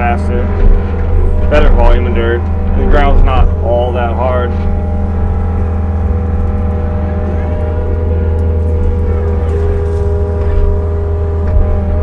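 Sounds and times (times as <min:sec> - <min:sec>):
excavator diesel engine running: 0:00.0 - 0:12.0
higher steady tone: 0:00.0 - 0:12.0.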